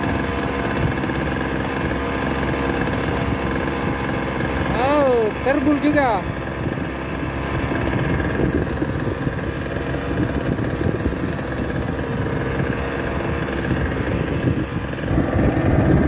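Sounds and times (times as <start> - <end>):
small boat engine droning: 0.0 - 16.0.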